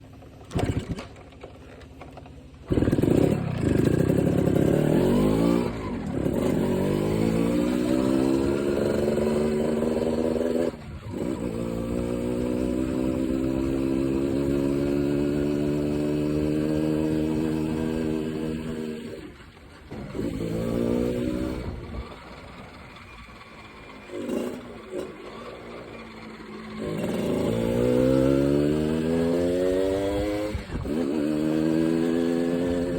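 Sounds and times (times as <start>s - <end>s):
motorcycle engine starting and idling: 0.0s - 32.9s.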